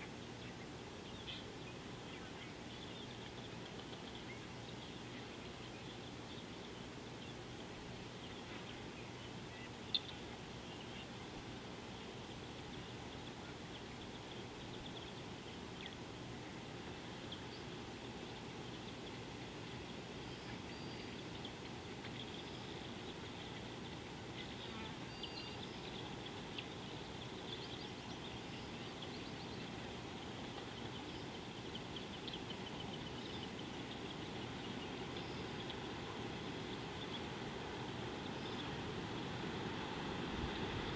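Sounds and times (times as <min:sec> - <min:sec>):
small birds chirping and trilling: 0:00.0 - 0:40.9
steady background hiss: 0:00.0 - 0:40.9.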